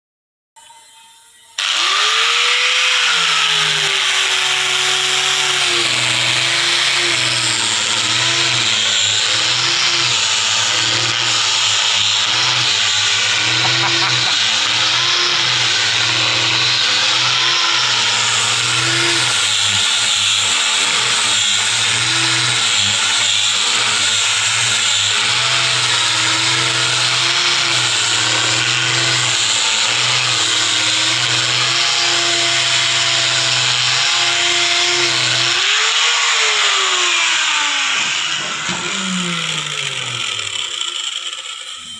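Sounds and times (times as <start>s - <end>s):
power sander on wood: 1.6s - 41.9s.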